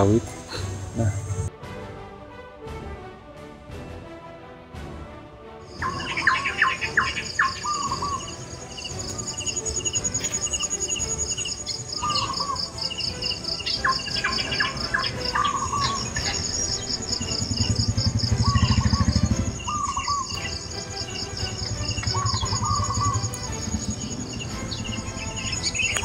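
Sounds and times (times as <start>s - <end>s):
birds chirping: 0.0s - 1.5s, 5.7s - 26.0s
insects buzzing: 0.0s - 1.5s, 5.7s - 26.0s.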